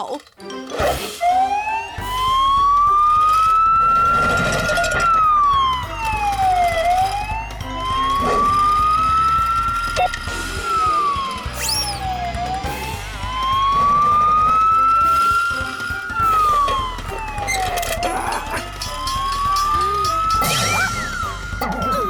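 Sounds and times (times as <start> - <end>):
wailing siren: 1.2 - 22.0.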